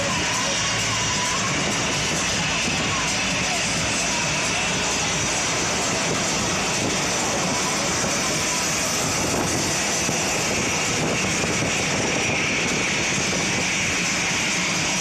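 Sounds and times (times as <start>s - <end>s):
jet engines running with whine: 0.0s - 15.0s.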